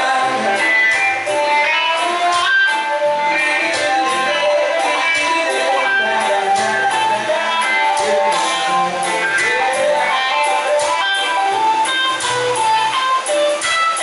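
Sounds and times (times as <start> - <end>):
live band music: 0.0 - 14.0
strummed guitar: 0.0 - 14.0.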